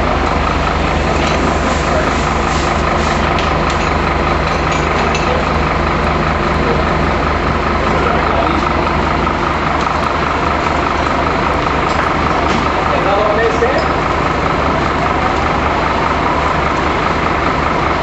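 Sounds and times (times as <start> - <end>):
fire truck engine running: 0.0 - 18.0.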